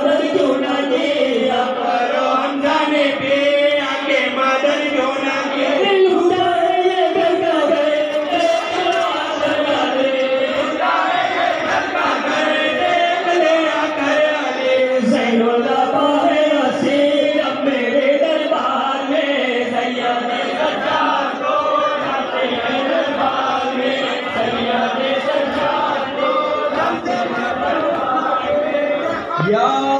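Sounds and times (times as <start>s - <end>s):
men chanting together: 0.0s - 29.9s.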